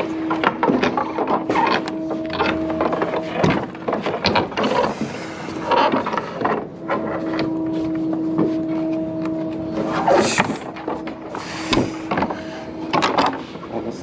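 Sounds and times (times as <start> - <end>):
wooden boards clicking and creaking: 0.0 - 13.5
steady low hum: 0.0 - 14.0.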